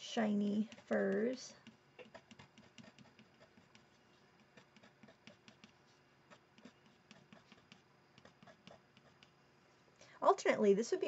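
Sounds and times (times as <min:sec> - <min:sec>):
colored pencil scratching on paper: 0:00.4 - 0:09.4.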